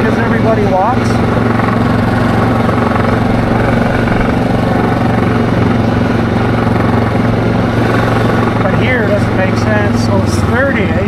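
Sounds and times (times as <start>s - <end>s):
atv engine droning: 0.0s - 11.0s.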